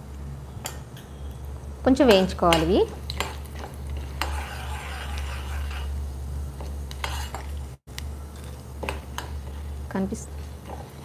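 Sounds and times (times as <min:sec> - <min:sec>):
steady low hum: 0:00.0 - 0:11.0
seeds frying in oil: 0:01.8 - 0:11.0.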